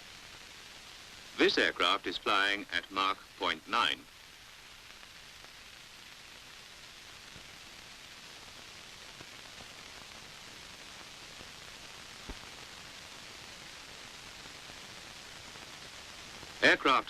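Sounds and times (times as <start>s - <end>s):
recording hiss: 0.0s - 17.0s.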